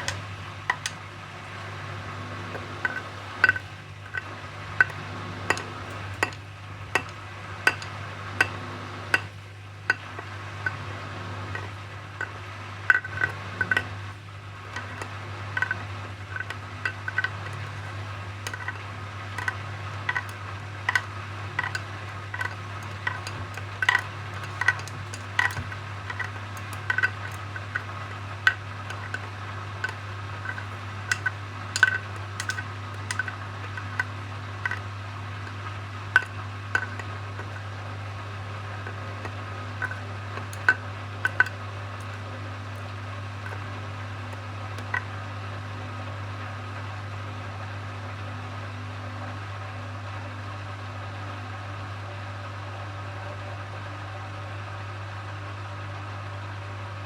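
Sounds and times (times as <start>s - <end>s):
washing machine spin hum: 0.0s - 57.0s.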